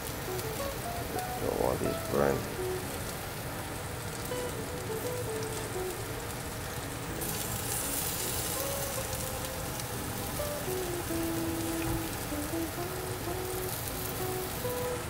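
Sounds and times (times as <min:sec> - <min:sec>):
potatoes sizzling in oil: 0:00.0 - 0:15.0
soft background music: 0:00.0 - 0:15.0.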